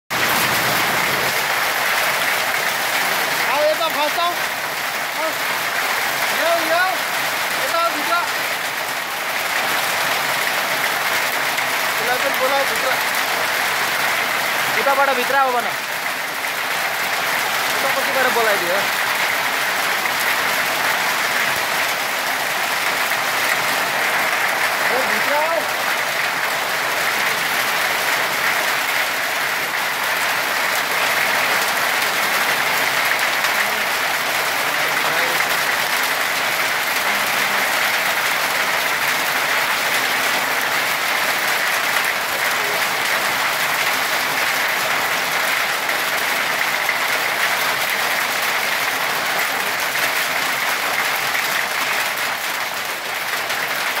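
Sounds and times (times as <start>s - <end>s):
hail falling on concrete and gravel: 0.1s - 54.0s.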